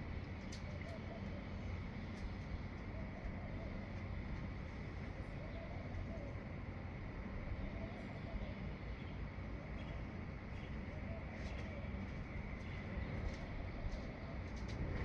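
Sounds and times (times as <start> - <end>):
steady low rumble: 0.0 - 15.0
faint bird calls: 0.4 - 14.6.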